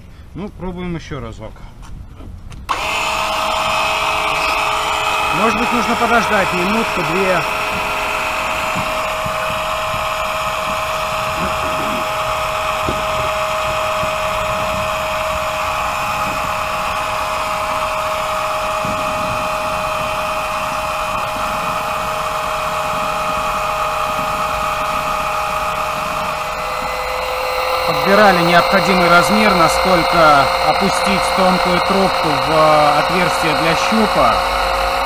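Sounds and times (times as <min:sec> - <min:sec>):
electric pump whining: 0:02.7 - 0:35.0.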